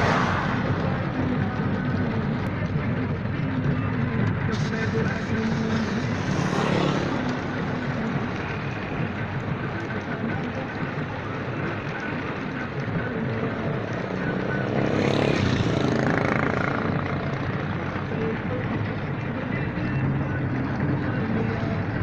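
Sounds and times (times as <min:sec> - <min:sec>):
road noise: 0:00.0 - 0:22.0
vehicle engine hum: 0:00.0 - 0:22.0.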